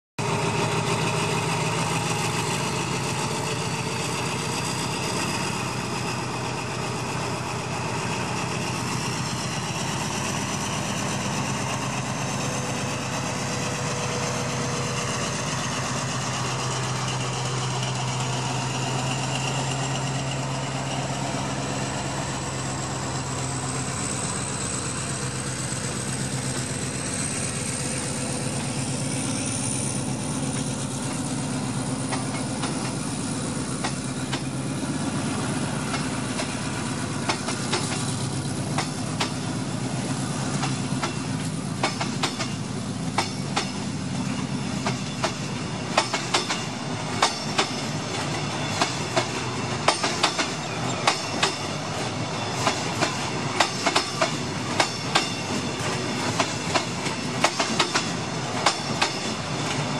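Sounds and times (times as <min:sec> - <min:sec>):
diesel locomotive engine drone: 0:00.2 - 0:59.9.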